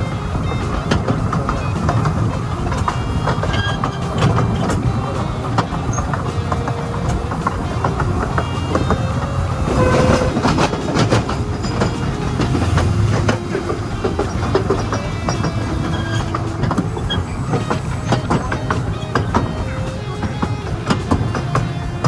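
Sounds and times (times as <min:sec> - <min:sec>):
trolley cars rattling on track: 0:00.0 - 0:22.0
wheels clacking over rail joints: 0:00.0 - 0:22.0.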